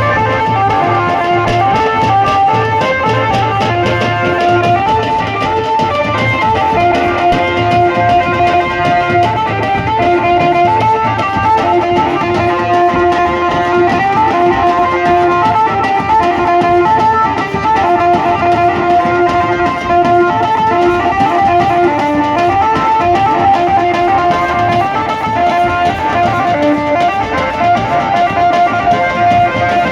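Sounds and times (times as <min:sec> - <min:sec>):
steady drum beat: 0:00.0 - 0:29.9
wedding band melody: 0:00.0 - 0:29.9.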